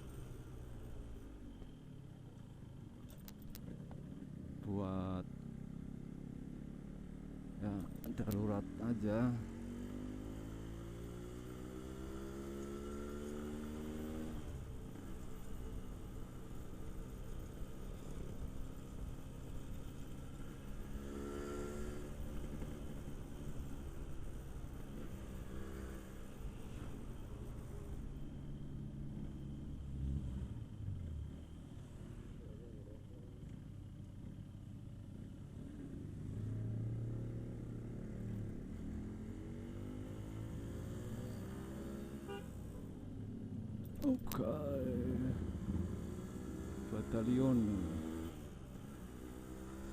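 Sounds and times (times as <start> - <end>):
motorcycle engine accelerating: 5.6 - 49.9.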